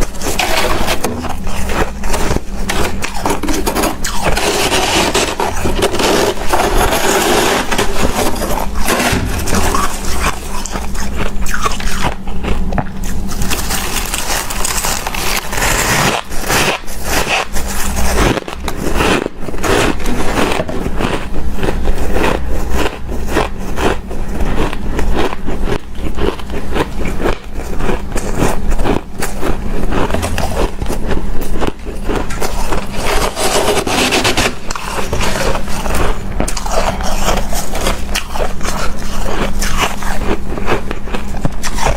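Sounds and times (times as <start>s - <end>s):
crunching shaved ice: 0.0s - 41.9s.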